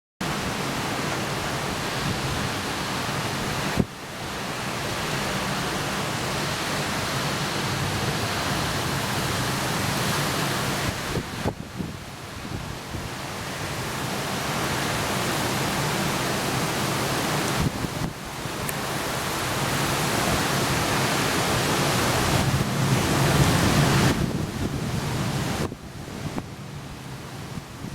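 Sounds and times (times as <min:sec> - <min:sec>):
heavy rain and wind hiss: 0:00.2 - 0:27.9.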